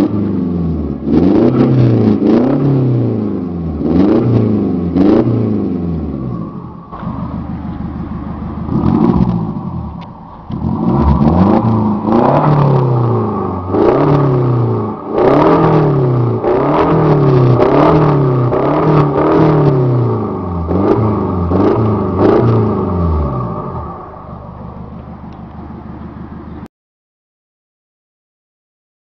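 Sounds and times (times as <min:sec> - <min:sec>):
car engine revving in blips: 0:00.0 - 0:26.7
exhaust crack: 0:00.9 - 0:26.7.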